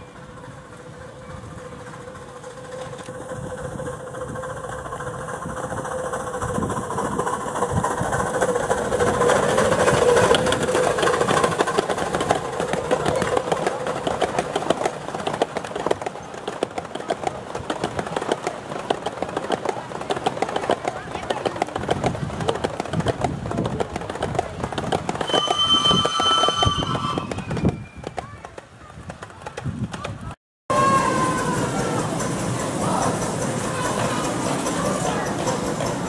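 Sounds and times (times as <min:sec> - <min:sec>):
rhythmic train beats: 0:00.0 - 0:30.0, 0:30.7 - 0:36.0
miniature steam locomotive: 0:00.0 - 0:36.0.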